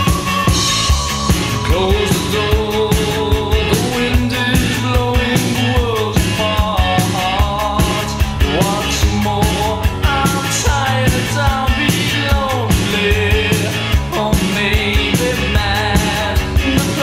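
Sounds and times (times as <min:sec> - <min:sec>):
indie rock song: 0:00.0 - 0:17.0
person singing: 0:00.0 - 0:17.0.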